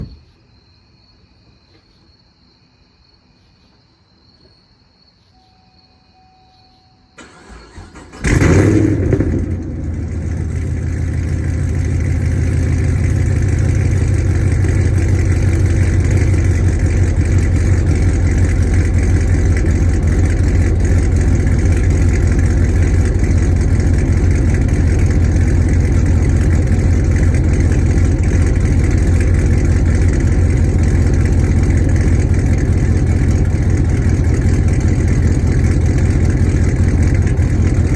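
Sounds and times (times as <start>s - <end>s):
car engine idling: 7.2s - 37.9s.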